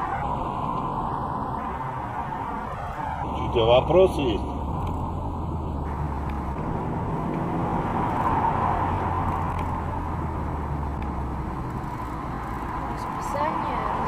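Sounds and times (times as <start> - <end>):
car engine: 0.0 - 14.0
road noise: 0.0 - 14.0.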